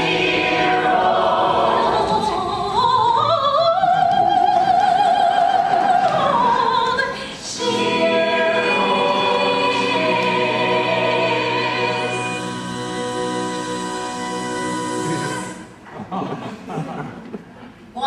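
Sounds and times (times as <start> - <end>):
chorus singing a slow song: 0.0 - 15.8.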